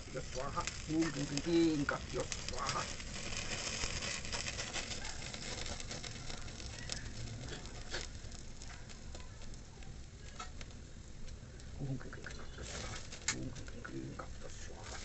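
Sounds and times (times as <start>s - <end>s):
sharp fire pops: 0.0s - 15.0s
wood fire crackling and hissing: 0.0s - 15.0s.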